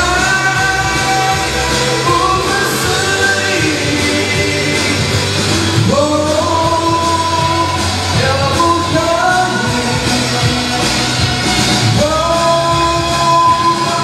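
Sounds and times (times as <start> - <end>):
instrumental accompaniment: 0.0 - 14.0
man singing pop song: 0.0 - 14.0.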